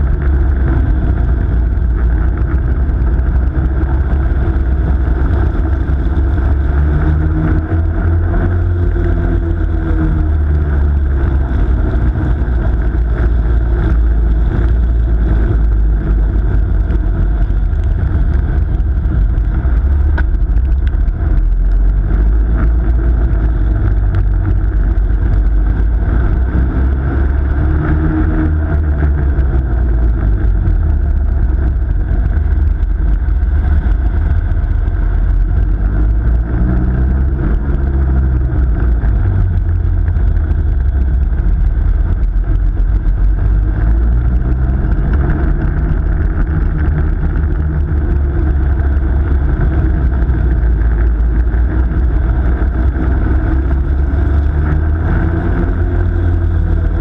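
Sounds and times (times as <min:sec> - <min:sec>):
kart motor rumbling: 0:00.0 - 0:57.0.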